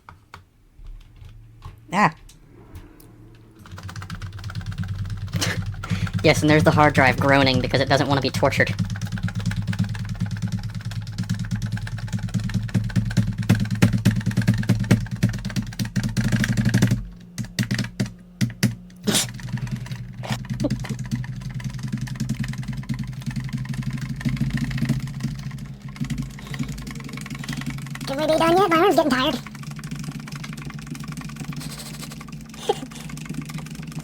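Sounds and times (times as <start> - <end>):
hard drive humming: 0.0 - 34.0
computer key tapped rapidly: 3.6 - 34.0.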